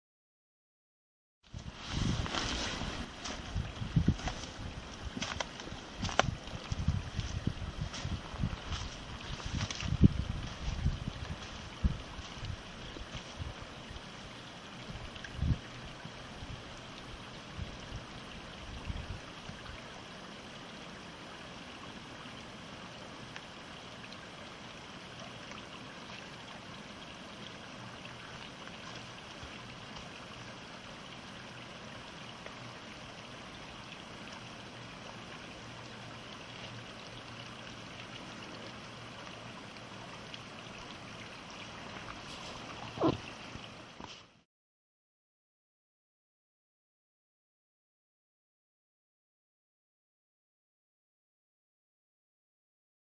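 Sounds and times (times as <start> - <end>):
mountain stream rushing: 1.6 - 44.3.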